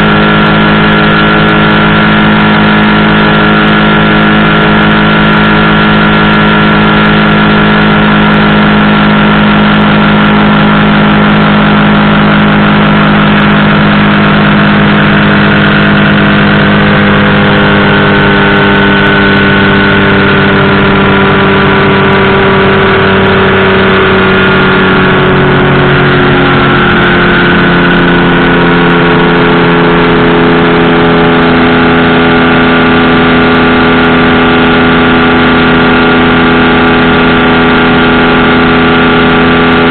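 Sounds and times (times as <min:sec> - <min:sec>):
engine and propeller running: 0:00.0 - 0:39.9.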